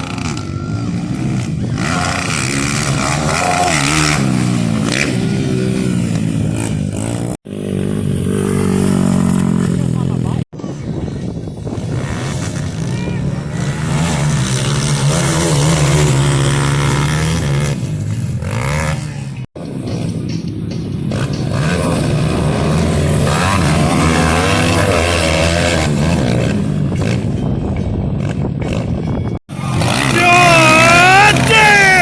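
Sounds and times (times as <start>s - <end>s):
pit bike engines revving: 0.0s - 32.0s.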